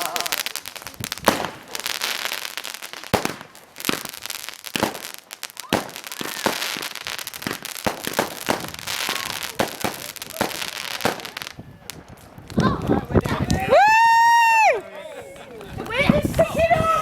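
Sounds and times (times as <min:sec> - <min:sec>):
fireworks bangs and crackles: 0:00.0 - 0:14.8, 0:15.4 - 0:17.0.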